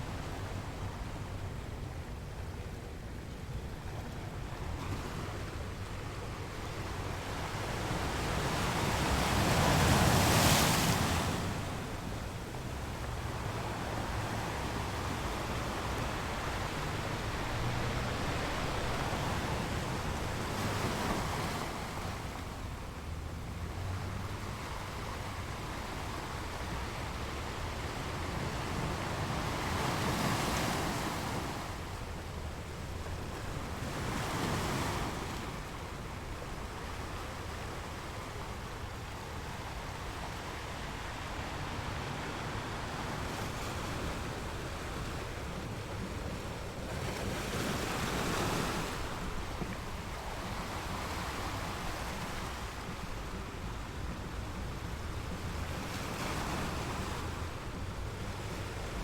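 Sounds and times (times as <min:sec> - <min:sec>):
wind rumble on microphone: 0:00.0 - 0:59.0
sea waves breaking on shore: 0:03.9 - 0:59.0.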